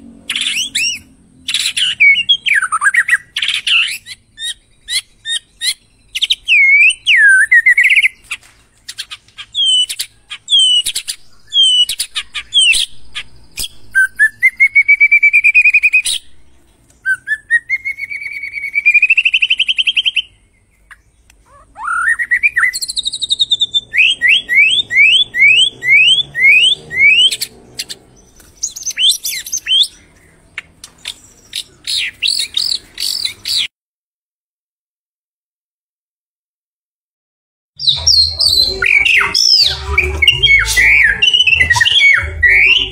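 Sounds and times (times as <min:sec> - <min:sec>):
bird singing whistled song: 0:00.3 - 0:21.1, 0:21.8 - 0:33.7, 0:37.8 - 0:42.9.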